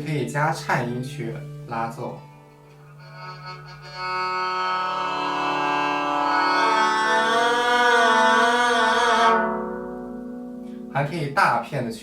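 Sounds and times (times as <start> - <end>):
bowed string note with vibrato: 0.0 - 11.6.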